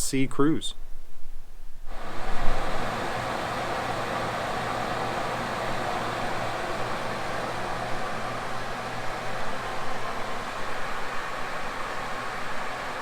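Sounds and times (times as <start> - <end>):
steady low hum: 1.0 - 13.0
shower water running: 1.9 - 13.0.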